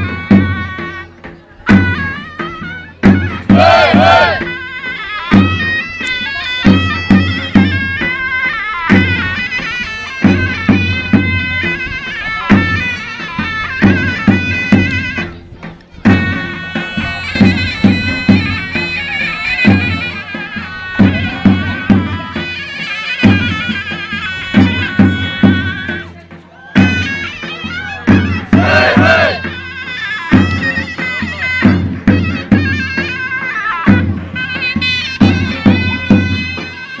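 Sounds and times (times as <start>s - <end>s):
shrill reed wind instrument melody: 0.0s - 37.0s.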